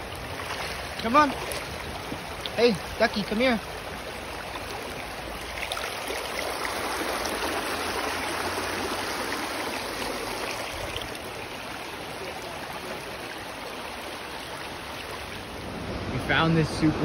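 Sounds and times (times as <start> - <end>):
creek water babbling over rocks: 0.0 - 17.0.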